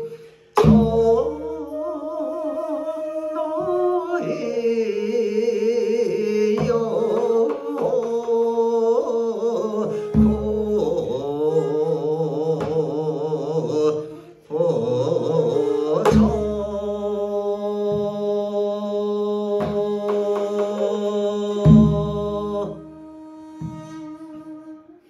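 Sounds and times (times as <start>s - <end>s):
bamboo flute: 0.0s - 18.3s, 19.2s - 25.0s
man singing held notes: 0.0s - 23.1s.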